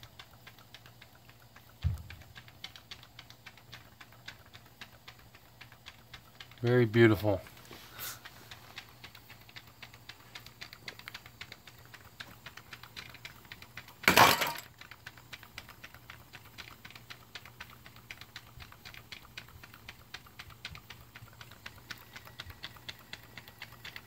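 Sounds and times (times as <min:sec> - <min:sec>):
model steam engine ticking: 0:00.0 - 0:24.0.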